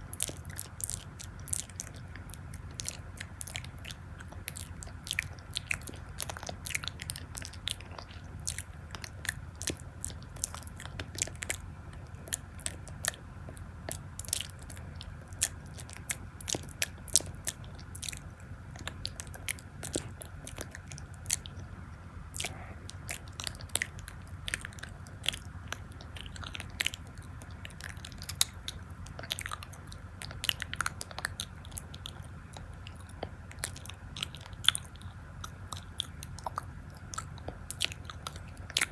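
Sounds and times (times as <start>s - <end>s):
crunchy chewing and biting: 0.0s - 38.9s
low steady hum: 0.0s - 38.9s.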